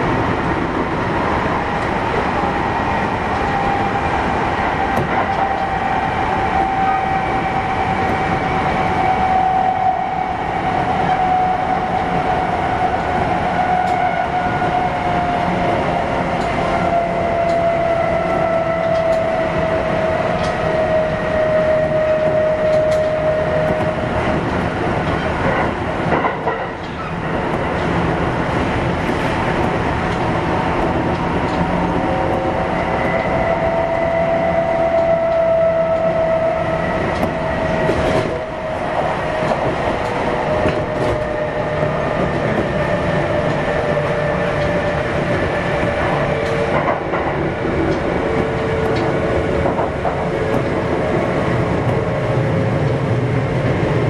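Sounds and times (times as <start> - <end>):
train inverter whine: 0.0 - 54.0
wheels rumbling on rail: 0.0 - 54.0.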